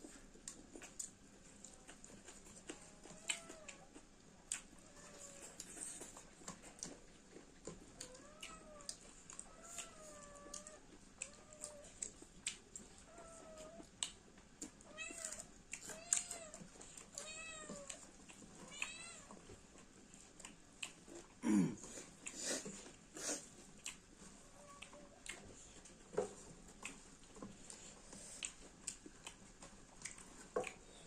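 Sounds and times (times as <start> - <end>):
clicks and crunches of eating: 0.0 - 31.0.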